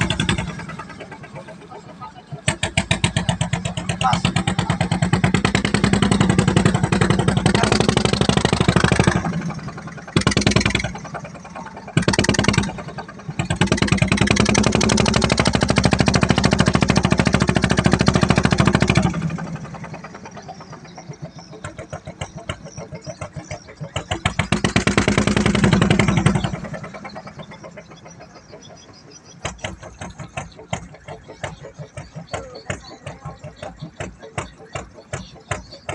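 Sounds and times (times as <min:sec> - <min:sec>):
boat engine putting: 0:00.0 - 0:35.9.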